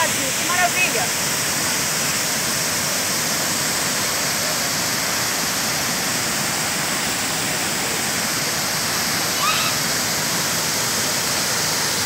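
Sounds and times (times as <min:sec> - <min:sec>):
waterfalls pouring into a pool: 0:00.0 - 0:12.0.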